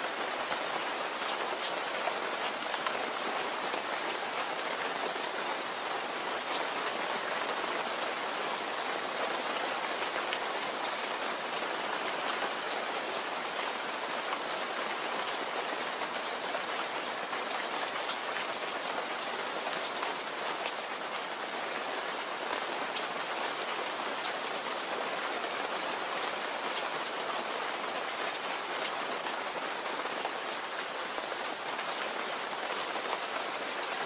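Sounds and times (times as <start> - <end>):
rain pattering on a surface: 0.0 - 34.0.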